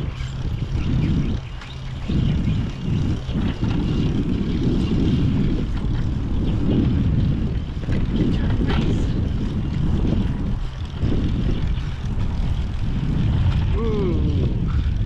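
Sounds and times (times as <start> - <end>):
bicycle tyres on paved path: 0.0 - 15.0
wind buffeting microphone: 0.0 - 15.0.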